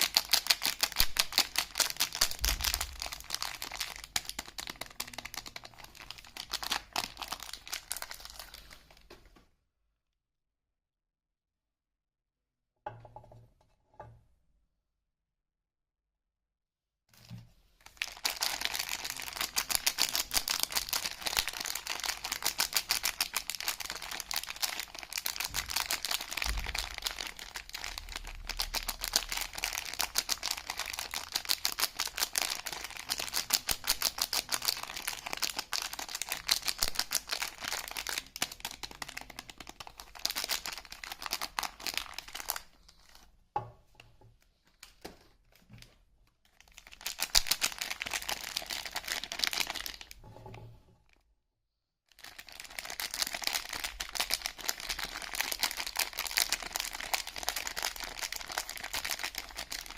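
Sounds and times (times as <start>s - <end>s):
wrapping crinkling and tearing: 0.0s - 9.1s, 17.2s - 43.3s, 44.6s - 50.2s, 52.1s - 59.9s.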